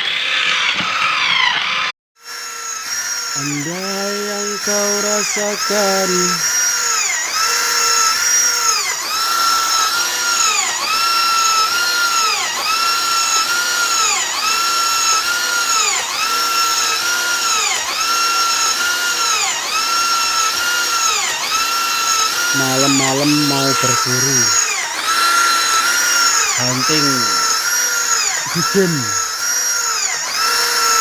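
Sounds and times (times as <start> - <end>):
electric pump motor whining: 0.0 - 31.0.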